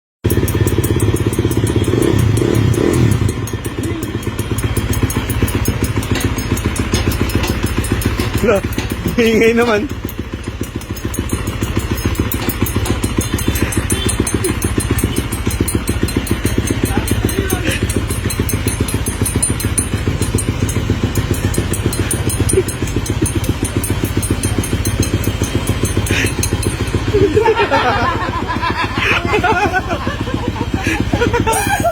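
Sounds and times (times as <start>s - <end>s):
engine ticking clatter: 0.2s - 31.9s
motorcycle engine idling: 0.2s - 31.9s.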